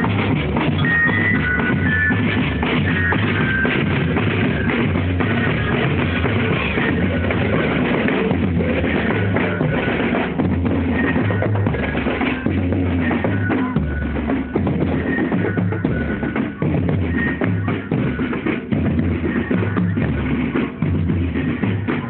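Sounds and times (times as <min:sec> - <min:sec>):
bass drum and snare beat: 0:00.0 - 0:22.0
live band music: 0:00.0 - 0:22.0.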